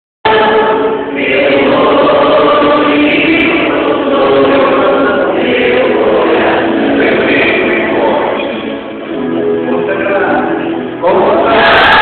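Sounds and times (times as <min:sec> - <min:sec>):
group singing a hymn: 0:00.3 - 0:09.0, 0:10.3 - 0:12.0.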